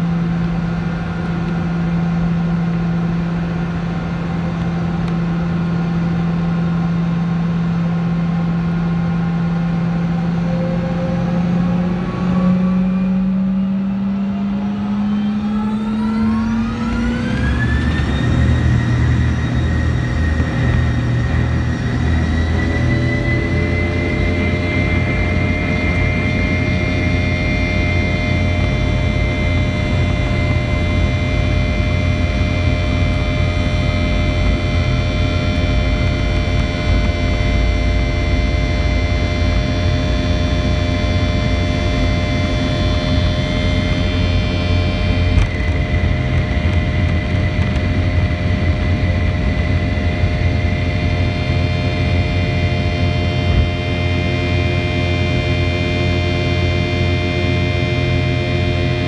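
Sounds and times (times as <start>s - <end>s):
jet engine roar: 0.0s - 59.0s
high whining tones: 9.5s - 59.0s.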